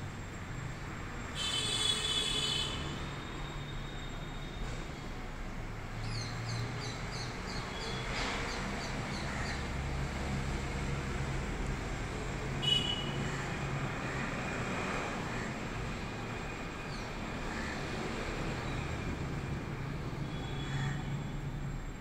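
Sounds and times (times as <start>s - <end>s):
city background rumble: 0.0s - 22.0s.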